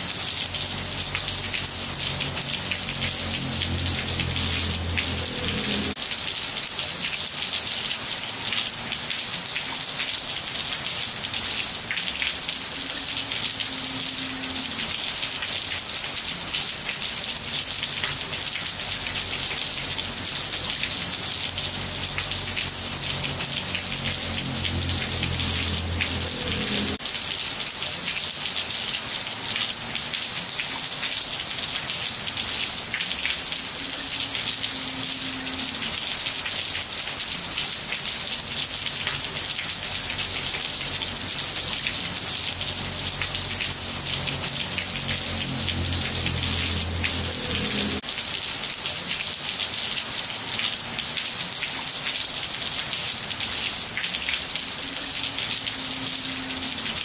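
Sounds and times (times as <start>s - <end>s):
rain on tiled floor: 0.0s - 57.0s.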